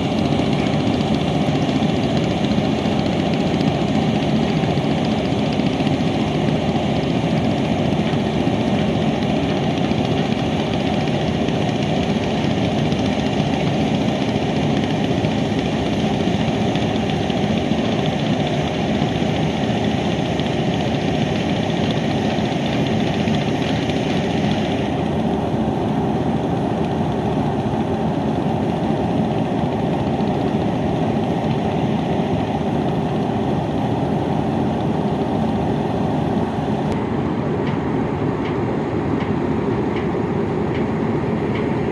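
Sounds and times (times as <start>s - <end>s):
boat engine rumbling: 0.0s - 41.9s.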